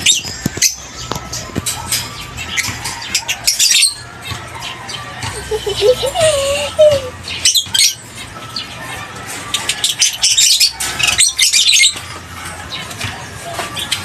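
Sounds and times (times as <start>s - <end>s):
lovebirds chirping: 0.0s - 14.0s.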